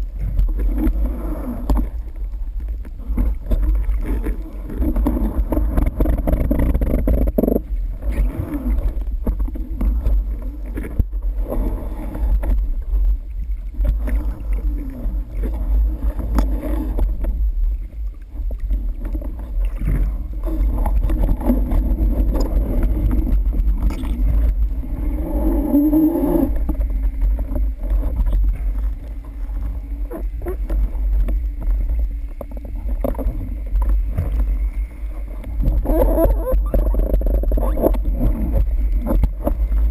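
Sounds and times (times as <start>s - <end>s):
underwater rumble of water: 0.0s - 39.9s
water gurgling: 0.0s - 39.9s.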